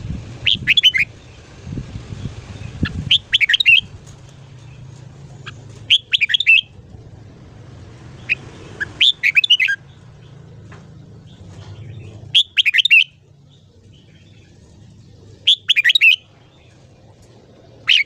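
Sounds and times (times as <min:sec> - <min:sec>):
bird singing warbled phrases: 0:00.0 - 0:18.0.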